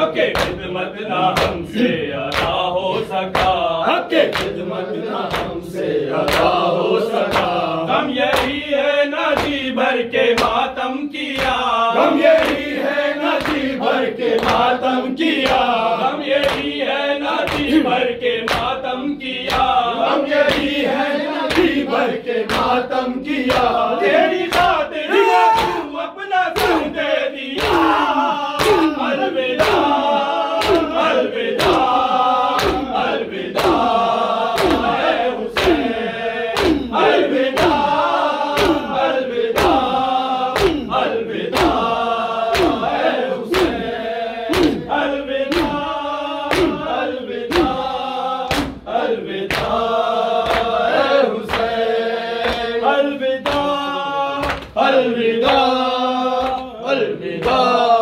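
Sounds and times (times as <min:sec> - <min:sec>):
men chanting in unison: 0:00.0 - 0:58.0
hands slapping chests: 0:00.2 - 0:04.6, 0:05.2 - 0:08.7, 0:09.3 - 0:18.8, 0:19.4 - 0:19.8, 0:20.4 - 0:20.8, 0:21.4 - 0:23.8, 0:24.4 - 0:25.9, 0:26.5 - 0:52.8, 0:53.4 - 0:53.8, 0:54.4 - 0:56.7, 0:57.4 - 0:57.8.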